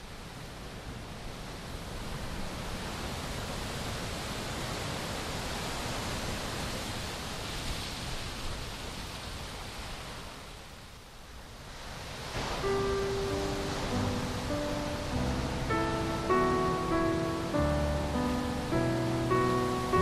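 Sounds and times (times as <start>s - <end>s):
steady rushing hiss: 0.0s - 20.0s.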